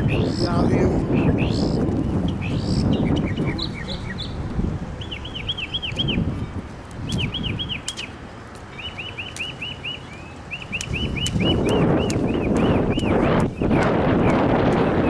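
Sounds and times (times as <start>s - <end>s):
songbird chirping: 0.0s - 15.0s
wind buffeting microphone: 0.0s - 15.0s.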